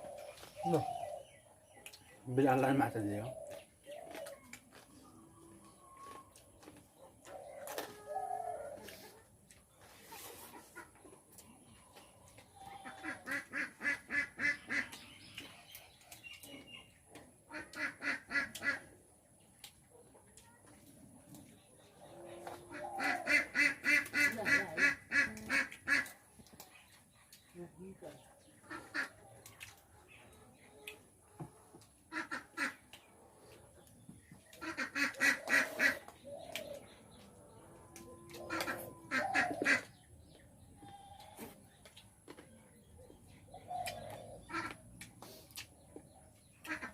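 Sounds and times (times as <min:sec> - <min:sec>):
birds calling: 0:00.0 - 0:09.0, 0:09.8 - 0:19.4, 0:22.0 - 0:31.0, 0:31.8 - 0:46.9.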